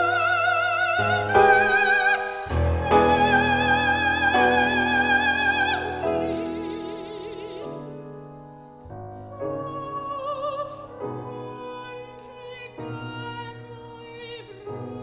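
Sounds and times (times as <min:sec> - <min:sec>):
piano accompaniment: 0:00.0 - 0:15.0
soprano singing with vibrato: 0:00.0 - 0:15.0.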